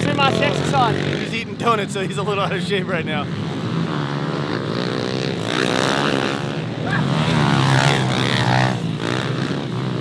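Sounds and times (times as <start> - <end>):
pit bike engines revving: 0.0 - 10.0.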